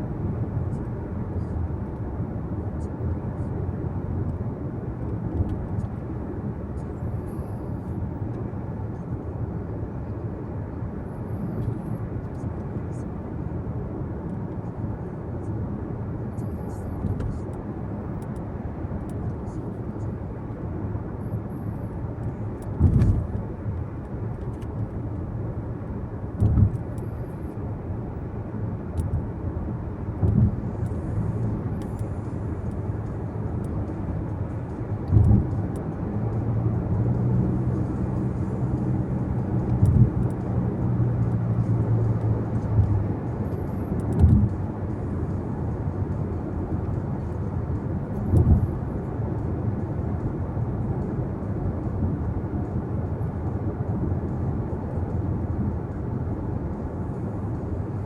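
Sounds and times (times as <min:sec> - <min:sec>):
car road noise rumble: 0:00.0 - 0:58.0
steady low hum: 0:00.0 - 0:58.0.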